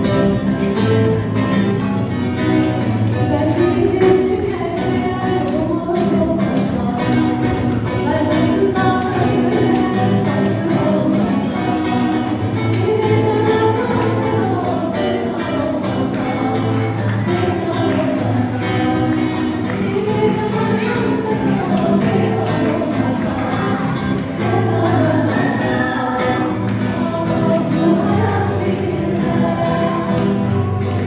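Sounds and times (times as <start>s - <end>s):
song with singing and beat: 3.0s - 31.0s.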